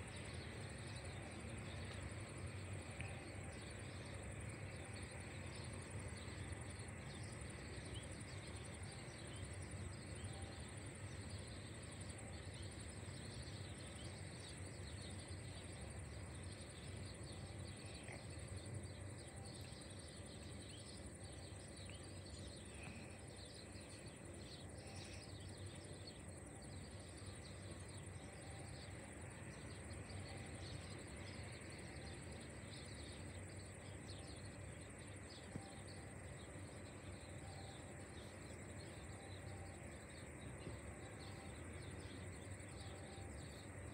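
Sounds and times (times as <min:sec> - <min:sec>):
high insect-like hiss: 0:00.0 - 0:43.9
small birds chirping: 0:00.0 - 0:43.9.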